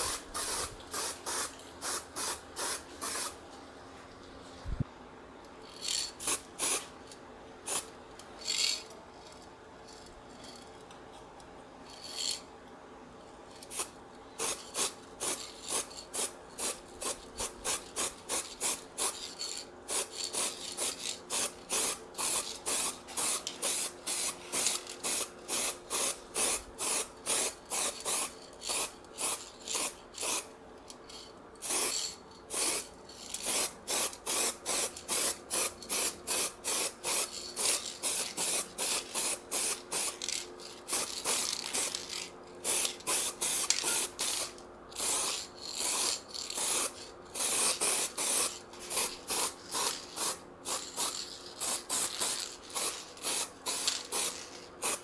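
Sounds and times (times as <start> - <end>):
spray paint can hissing: 0.0 - 3.4, 5.8 - 6.9, 7.7 - 7.9, 13.7 - 30.5, 31.6 - 55.0.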